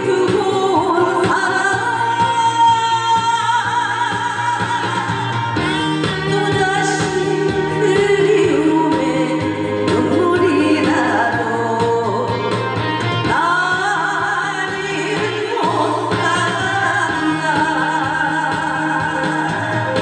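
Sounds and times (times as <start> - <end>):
instrumental accompaniment: 0.0 - 20.0
woman singing into a microphone: 0.0 - 20.0.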